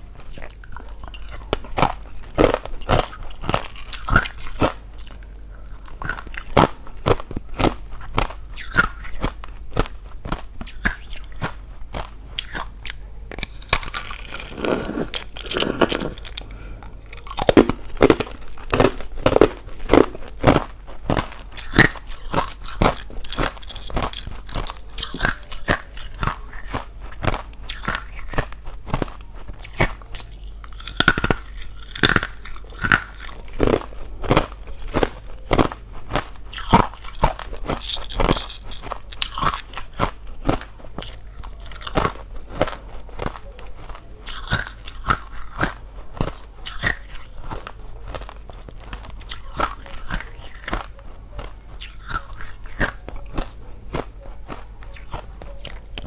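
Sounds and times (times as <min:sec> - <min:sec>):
ice crunching being chewed: 0:00.2 - 0:56.0.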